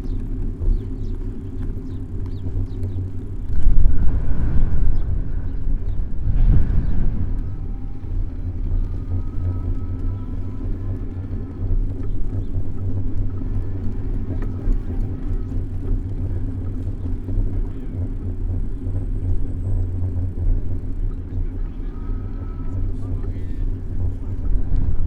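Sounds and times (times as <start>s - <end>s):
low rumble of traffic: 0.0s - 25.0s
faint thin whine: 2.2s - 25.0s.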